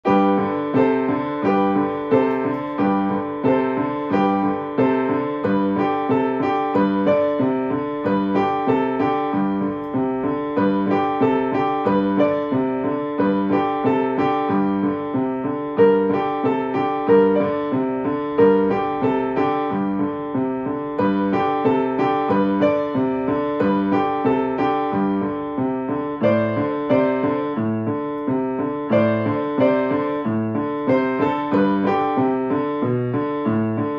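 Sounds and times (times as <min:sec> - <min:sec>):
grand piano piece: 0:00.0 - 0:33.9.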